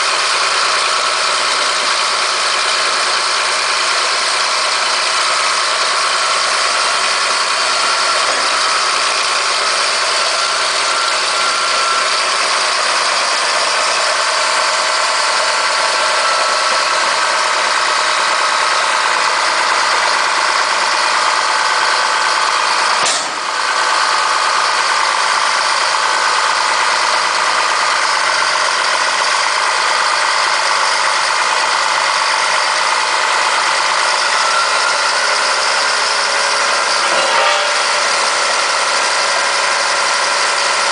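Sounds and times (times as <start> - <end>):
bulldozer diesel engine idling: 0.0 - 40.9.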